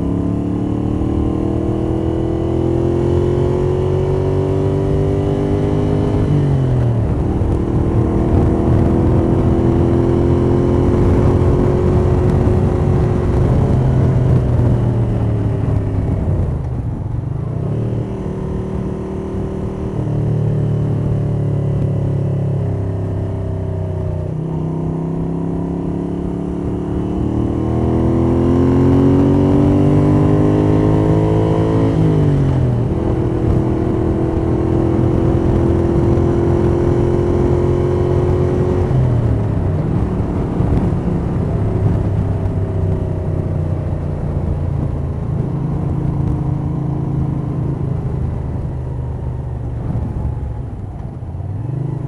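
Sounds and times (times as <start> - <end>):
motorcycle engine revving: 0.0 - 52.0
wind noise: 0.0 - 52.0.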